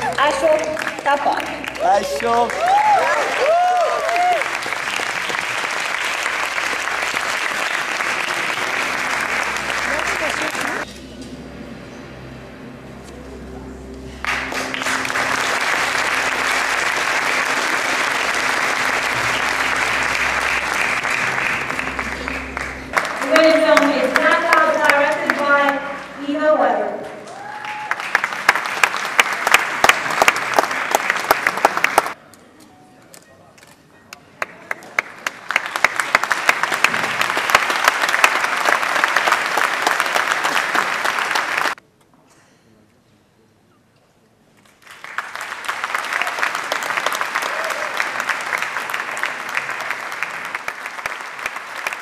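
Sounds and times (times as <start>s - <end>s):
audience applauding: 0.0s - 10.9s, 14.2s - 26.2s, 27.2s - 32.2s, 34.4s - 41.8s, 44.6s - 52.0s.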